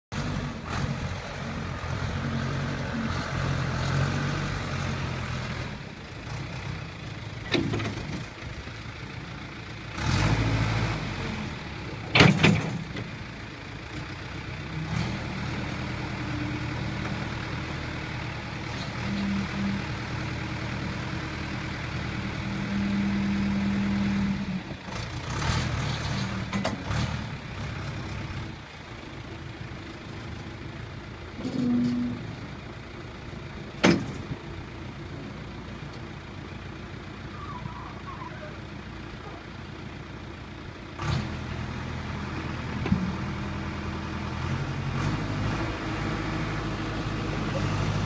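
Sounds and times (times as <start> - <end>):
diesel engine running: 0.1 - 48.0.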